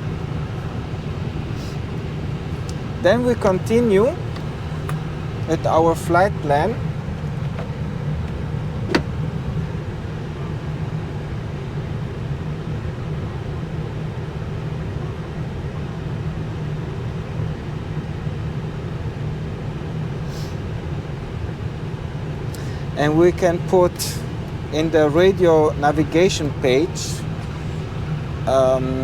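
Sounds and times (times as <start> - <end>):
cockpit low hum: 0.0 - 29.0.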